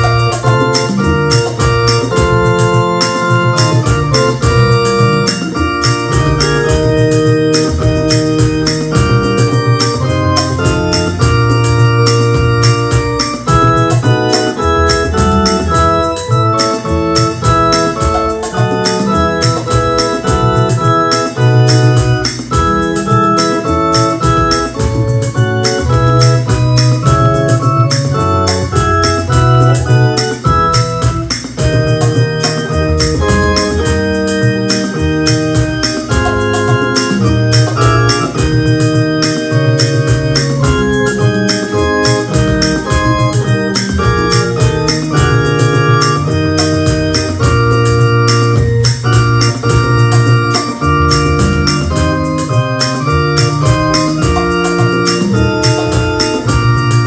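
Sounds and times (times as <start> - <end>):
electronic organ playing hymn: 0.0 - 57.0
percussion beat: 0.0 - 57.0.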